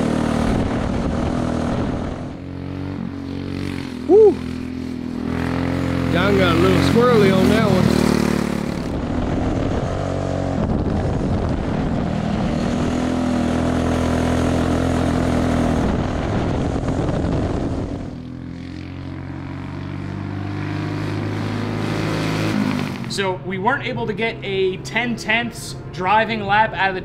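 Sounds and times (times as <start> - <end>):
go-kart engine running hard: 0.0 - 26.6.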